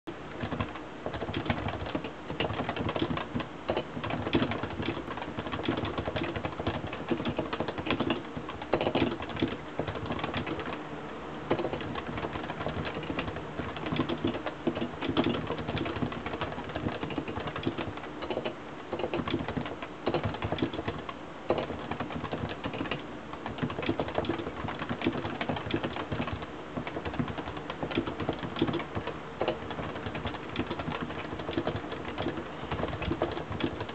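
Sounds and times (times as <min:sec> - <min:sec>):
fast keyboard typing: 0:00.3 - 0:10.8, 0:11.5 - 0:33.9.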